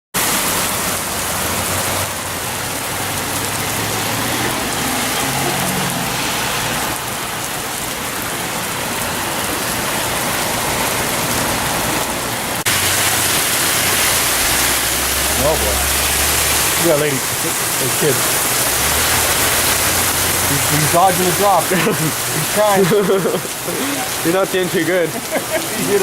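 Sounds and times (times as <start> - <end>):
heavy rain pouring: 0.2 - 26.0.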